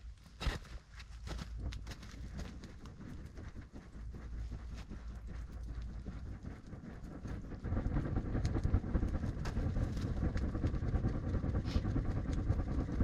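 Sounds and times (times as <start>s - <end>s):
gusts of air fanning fire: 0.0s - 13.0s.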